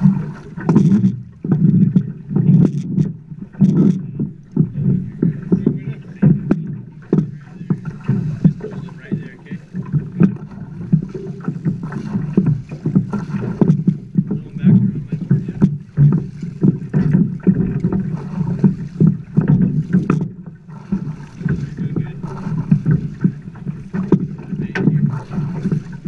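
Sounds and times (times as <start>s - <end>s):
water slapping against boat hull: 0.0s - 26.0s.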